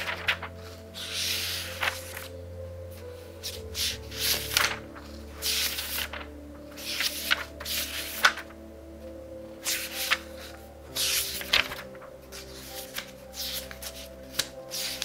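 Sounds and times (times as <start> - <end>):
book pages turning: 0.0 - 8.6, 9.6 - 15.0
soft music: 0.0 - 15.0.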